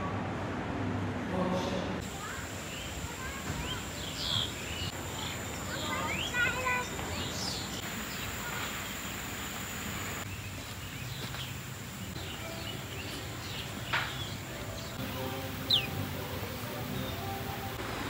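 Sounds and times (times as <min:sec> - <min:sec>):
birds chirping: 0:02.0 - 0:18.0.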